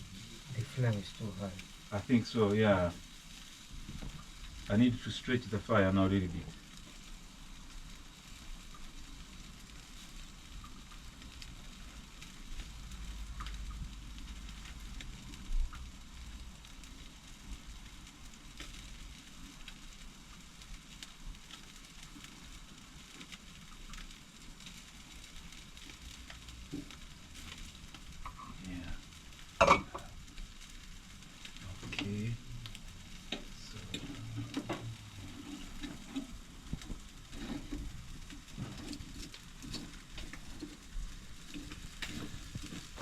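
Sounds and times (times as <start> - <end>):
chicken sizzling over fire: 0.0 - 43.0.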